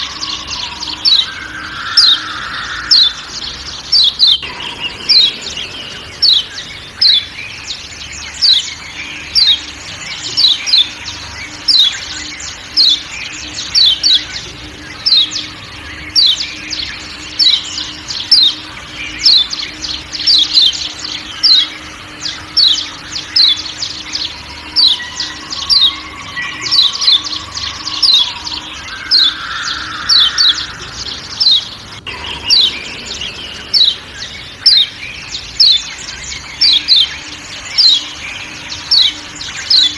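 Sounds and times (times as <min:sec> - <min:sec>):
bird giving sharp high calls: 0:00.0 - 0:39.9
faint forest background: 0:00.0 - 0:39.9.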